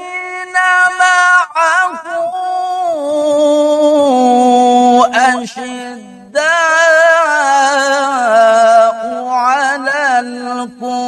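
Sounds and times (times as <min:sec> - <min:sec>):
man chanting a recitation: 0:00.0 - 0:11.0.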